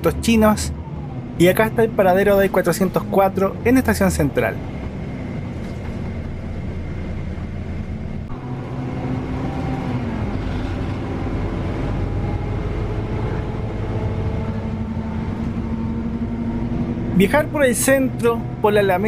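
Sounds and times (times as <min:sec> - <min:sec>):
bus diesel engine under load: 0:00.0 - 0:19.0.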